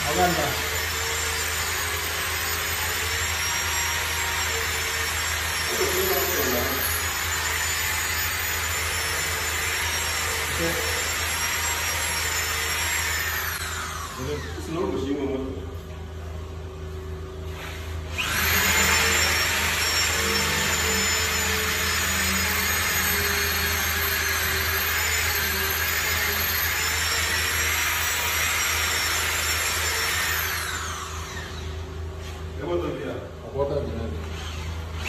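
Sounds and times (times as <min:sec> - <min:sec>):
electric drill whining: 0:00.0 - 0:15.1, 0:17.5 - 0:32.4, 0:34.2 - 0:35.0.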